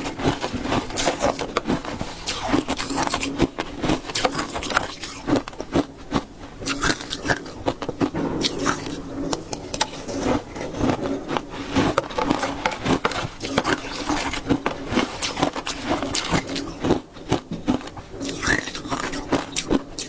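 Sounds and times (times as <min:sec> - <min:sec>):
chewing ice crunches: 0:00.0 - 0:20.0.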